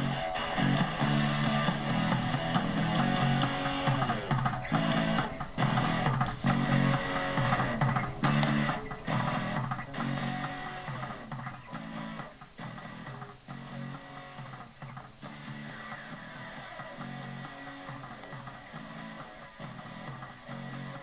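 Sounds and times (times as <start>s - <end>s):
bass guitar: 0.0s - 21.0s
electric guitar chords: 0.0s - 21.0s.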